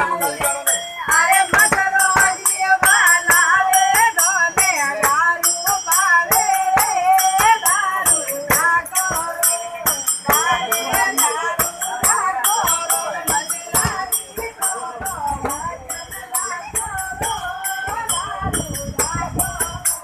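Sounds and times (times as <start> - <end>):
frame drum beats: 0.0 - 20.0.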